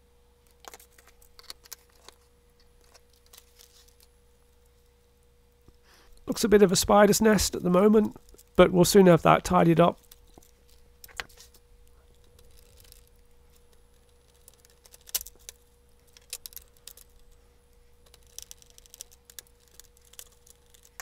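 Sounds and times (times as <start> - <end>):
faint steady hum: 0.0 - 21.0
wires and connectors rattling: 0.5 - 4.8, 6.1 - 17.4, 18.0 - 21.0.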